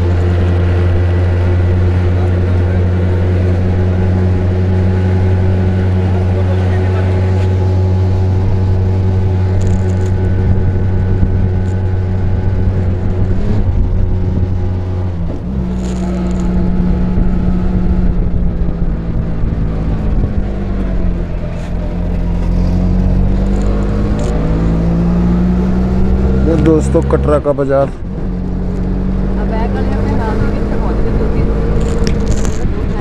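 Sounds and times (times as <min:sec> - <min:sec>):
auto-rickshaw engine hum: 0:00.0 - 0:33.0.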